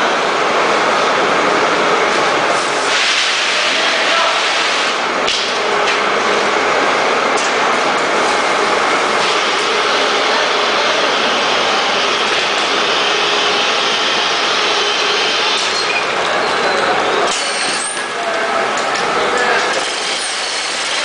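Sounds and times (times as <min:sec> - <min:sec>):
factory machinery running: 0:00.0 - 0:21.0.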